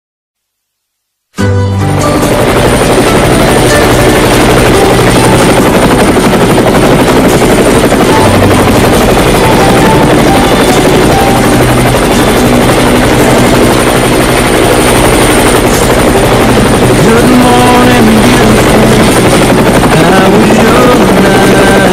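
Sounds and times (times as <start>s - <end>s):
thin high whine: 1.4s - 21.9s
helicopter rotor beat: 1.8s - 21.9s.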